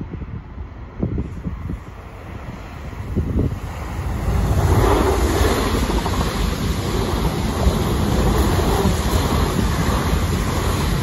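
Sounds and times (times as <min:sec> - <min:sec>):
wind buffeting microphone: 0:00.0 - 0:11.0
train wheels rushing on rail: 0:00.9 - 0:11.0.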